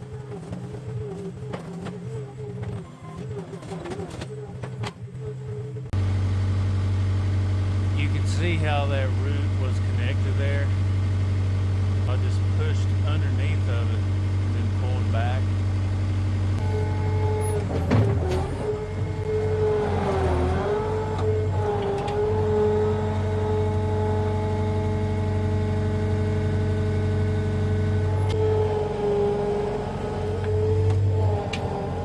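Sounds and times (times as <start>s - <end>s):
skid steer engine running: 0.0s - 32.0s.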